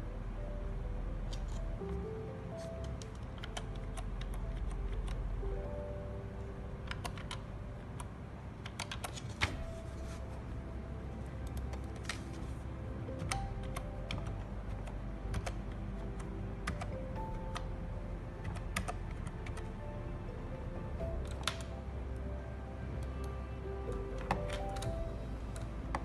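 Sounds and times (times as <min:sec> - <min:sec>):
soft background music: 0:00.0 - 0:26.0.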